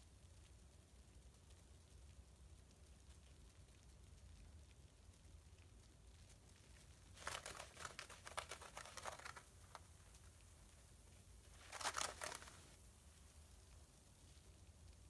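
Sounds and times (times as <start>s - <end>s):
bath bomb crackling in water: 0.0s - 15.0s.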